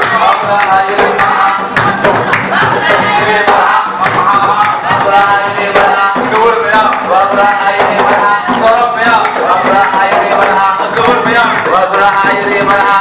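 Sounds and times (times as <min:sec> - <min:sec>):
hand drum beat: 0:00.0 - 0:13.0
person singing: 0:00.0 - 0:13.0
rhythmic hand clapping: 0:00.0 - 0:13.0.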